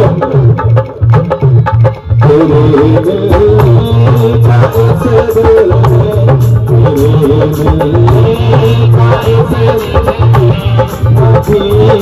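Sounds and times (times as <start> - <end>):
dholak beating a rhythm: 0.0 - 12.0
keyboard melody: 0.0 - 12.0.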